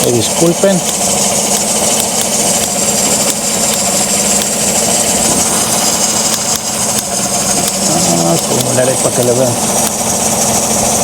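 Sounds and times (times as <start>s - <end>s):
engine idling roughly: 0.0s - 11.0s.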